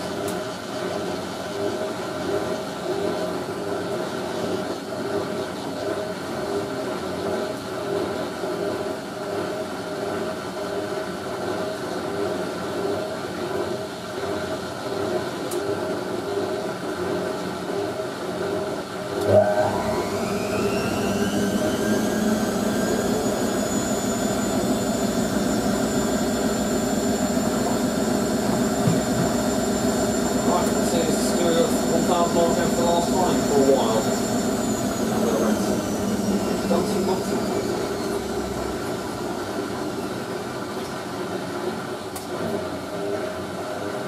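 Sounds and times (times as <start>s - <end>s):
washing machine spinning: 0.0s - 44.0s.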